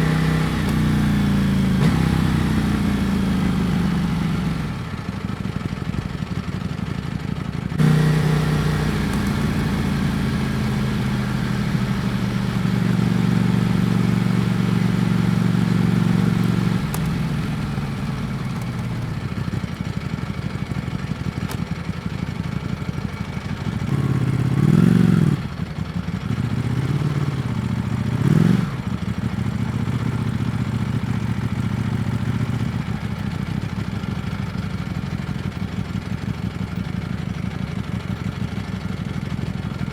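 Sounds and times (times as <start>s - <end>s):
motorcycle engine revving: 0.0s - 5.8s, 6.4s - 34.5s.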